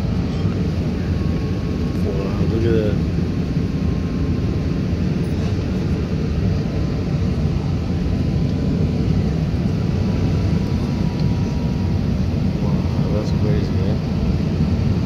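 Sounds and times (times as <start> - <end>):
airplane cabin engine rumble: 0.0 - 15.0
faint steady whine: 0.0 - 15.0.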